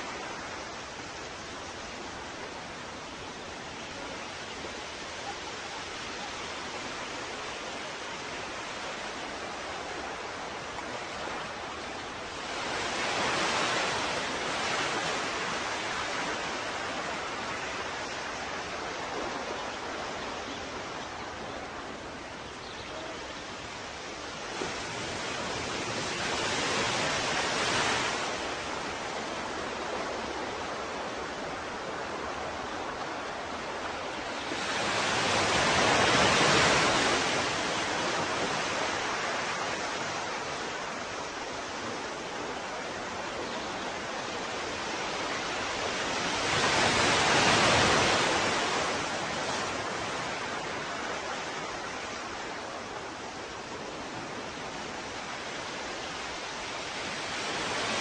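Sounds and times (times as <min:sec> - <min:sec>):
ocean surf: 0:00.0 - 0:58.0.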